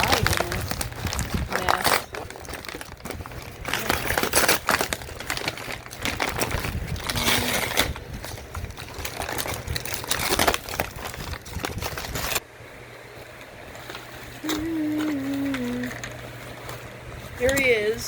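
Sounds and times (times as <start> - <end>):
packing paper crumpling: 0.0 - 12.4, 13.8 - 16.8.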